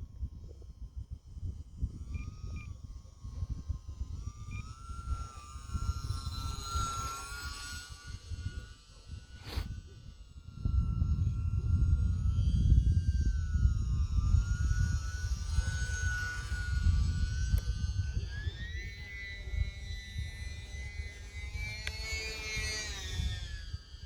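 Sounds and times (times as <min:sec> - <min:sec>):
electric motor and propeller whine: 0:00.0 - 0:24.0.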